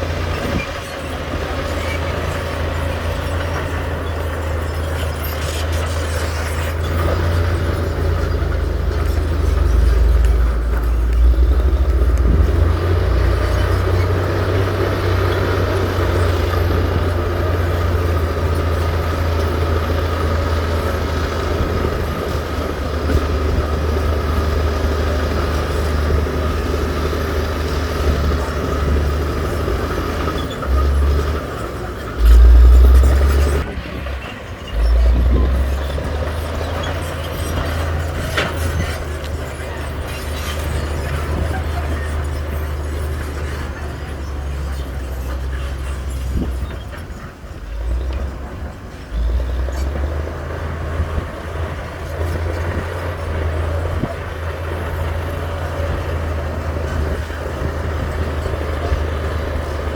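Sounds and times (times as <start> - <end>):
diesel earthmoving machinery rumbling: 0.0 - 59.9.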